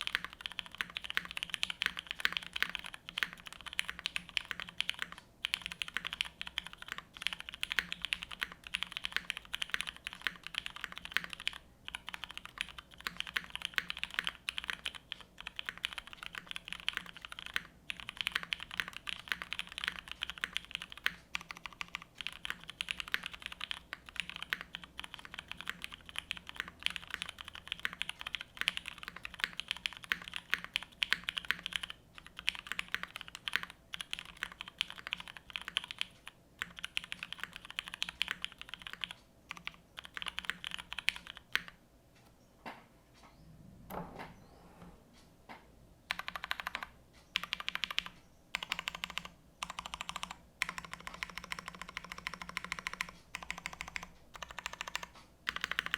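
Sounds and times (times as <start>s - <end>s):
fast typing on mechanical keyboard: 0.0s - 41.8s, 46.1s - 55.9s.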